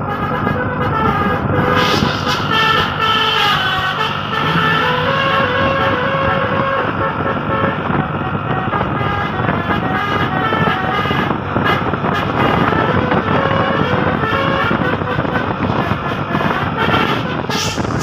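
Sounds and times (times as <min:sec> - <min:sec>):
multi-tone bus horn tune: 0:00.0 - 0:18.0
road noise: 0:00.0 - 0:18.0
vehicle engine: 0:00.0 - 0:18.0.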